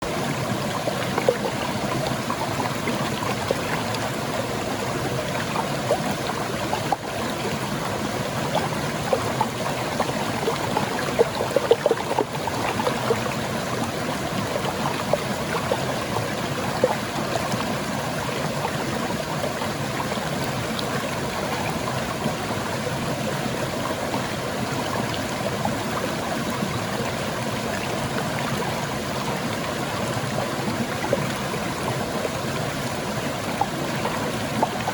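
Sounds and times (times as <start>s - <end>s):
water rushing over rocks: 0.0s - 34.9s
water splashes: 0.0s - 34.9s.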